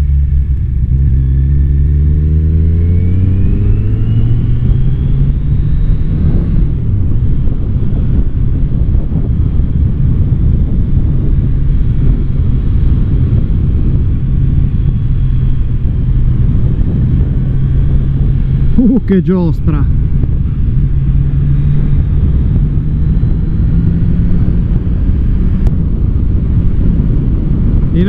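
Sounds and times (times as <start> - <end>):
low wind rumble: 0.0 - 28.0
motorcycle engine: 0.0 - 28.0.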